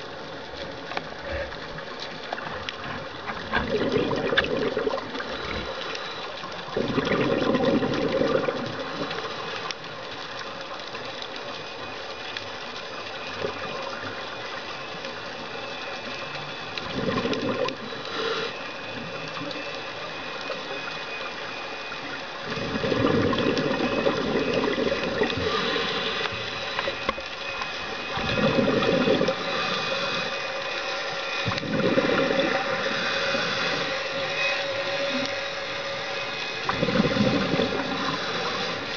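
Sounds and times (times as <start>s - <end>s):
steady crackling hiss: 0.0s - 38.9s
exhaled bubbles underwater: 1.1s - 9.8s, 13.0s - 38.9s.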